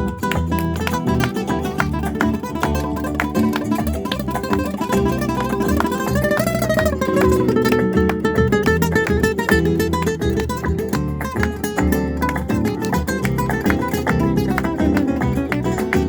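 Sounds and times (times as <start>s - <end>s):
flamenco acoustic guitar: 0.0s - 16.0s.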